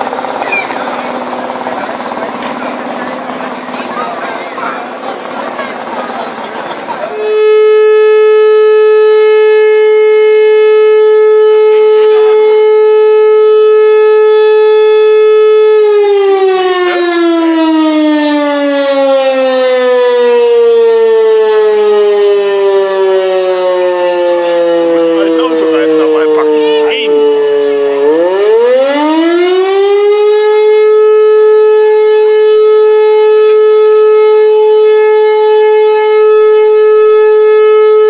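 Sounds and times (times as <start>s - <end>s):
rotary siren winding down: 0.0s - 38.0s.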